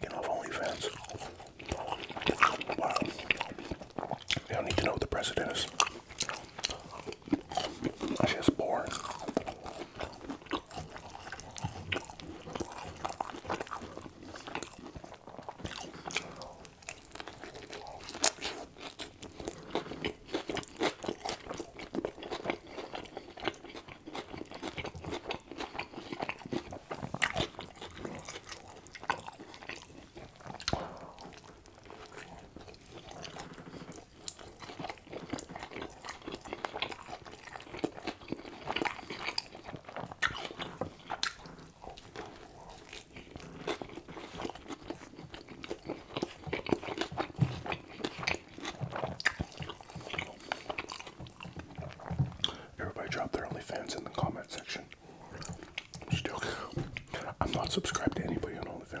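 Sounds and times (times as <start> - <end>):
close chewing with crunches: 0.0 - 59.0.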